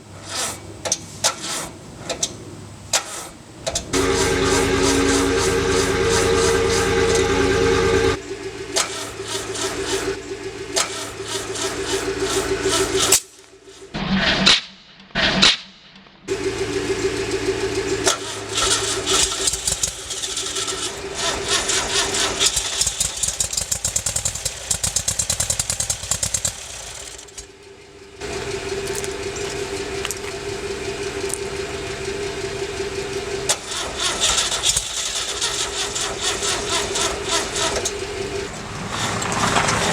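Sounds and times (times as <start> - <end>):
car engine cranking on starter: 0.0 - 14.0, 16.3 - 39.9.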